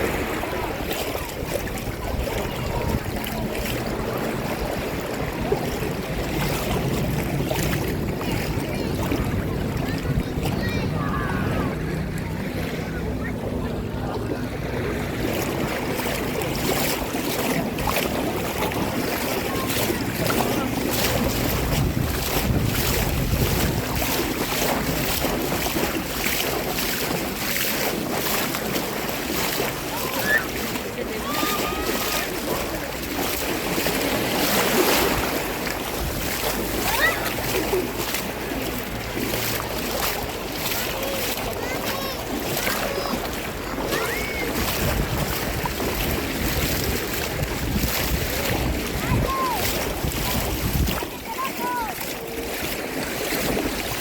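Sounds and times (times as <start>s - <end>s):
sea water splashing in shallows: 0.0s - 54.0s
wind rumbling on microphone: 0.0s - 54.0s.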